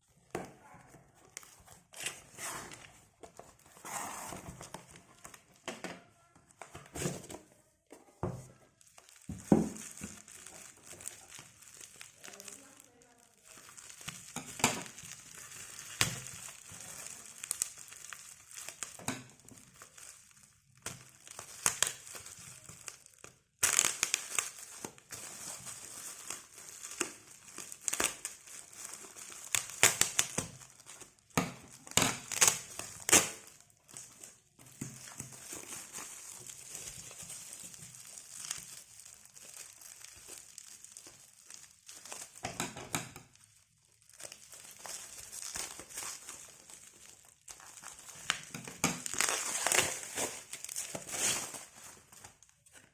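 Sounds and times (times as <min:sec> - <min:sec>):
packaging crinkling and rustling: 0:00.0 - 0:52.9.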